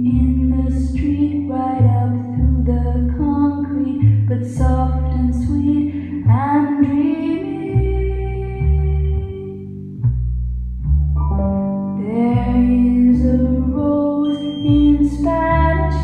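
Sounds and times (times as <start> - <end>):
person singing: 0.0 - 9.6, 12.0 - 16.0
guitar: 0.0 - 10.0, 11.3 - 16.0
bass: 0.0 - 16.0.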